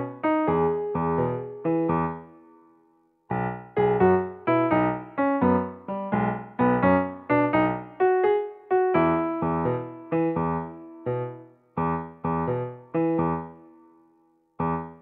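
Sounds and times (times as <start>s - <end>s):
light keyboard tune: 0.0s - 2.5s, 3.3s - 13.7s.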